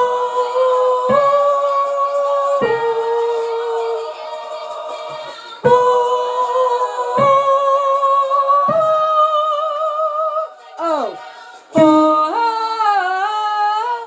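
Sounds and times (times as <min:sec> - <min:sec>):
person singing unaccompanied: 0:00.0 - 0:14.0.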